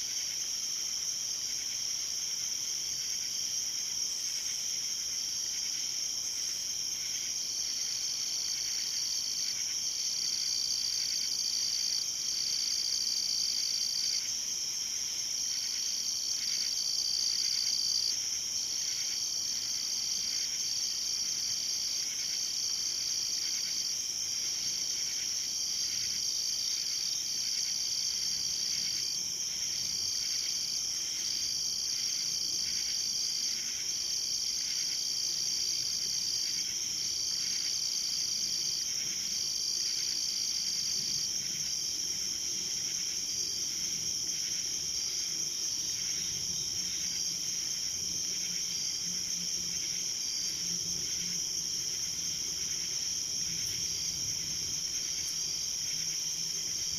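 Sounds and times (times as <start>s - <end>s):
intermittent insect call: 0.0s - 56.9s
night insects trilling: 0.0s - 56.9s
soft pulsing insect call: 0.0s - 56.9s.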